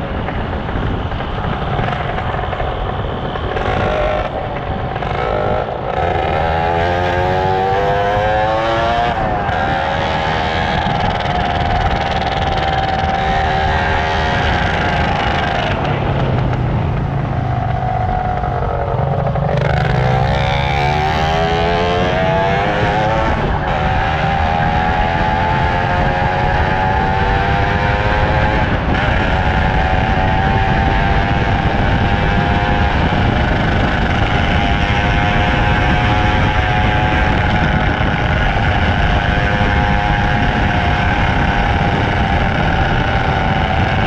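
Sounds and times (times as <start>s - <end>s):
motorcycle engine running: 0.0s - 44.0s
wind rush on microphone: 0.0s - 44.0s.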